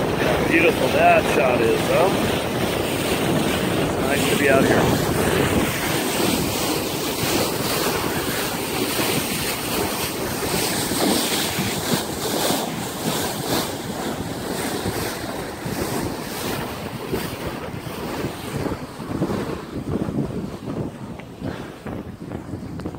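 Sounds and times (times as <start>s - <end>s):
bow wave rushing through water: 0.0s - 22.9s
wind buffeting microphone: 0.0s - 22.9s.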